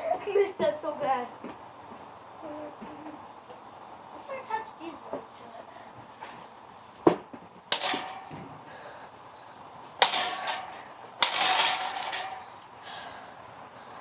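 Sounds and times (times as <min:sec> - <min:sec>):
ceiling fan blades clattering: 0:00.0 - 0:14.0.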